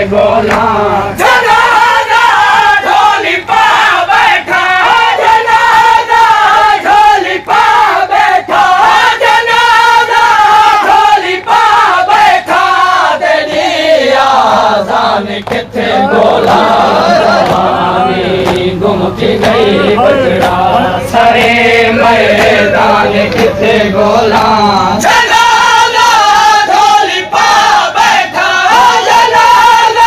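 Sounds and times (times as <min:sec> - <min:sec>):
men chanting in chorus: 0:00.0 - 0:30.0
noise of packed crowd: 0:00.0 - 0:30.0.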